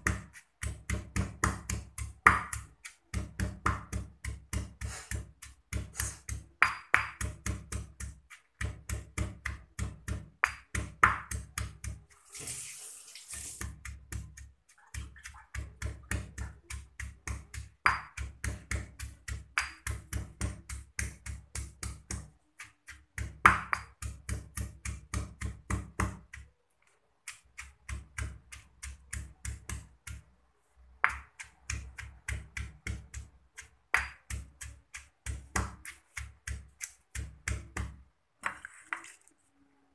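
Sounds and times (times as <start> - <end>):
stone pestle pounding in mortar: 0.0 - 12.1, 13.6 - 26.5, 27.3 - 30.3, 31.0 - 38.6.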